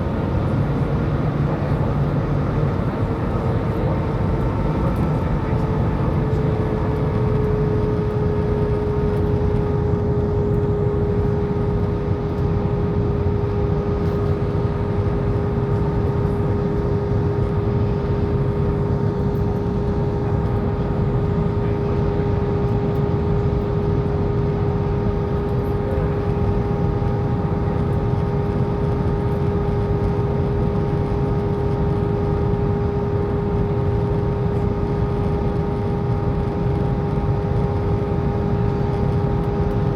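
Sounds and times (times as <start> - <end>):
airliner cabin rumble: 0.0 - 39.9
constant hum: 0.0 - 39.9.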